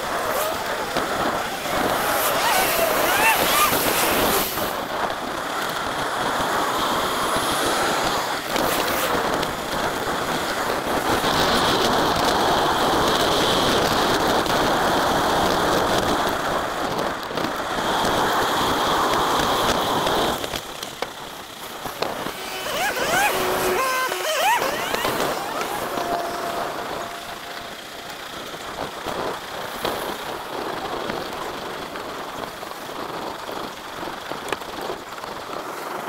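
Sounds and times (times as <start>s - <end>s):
road noise: 0.0s - 36.0s
rushing wind: 0.0s - 36.0s.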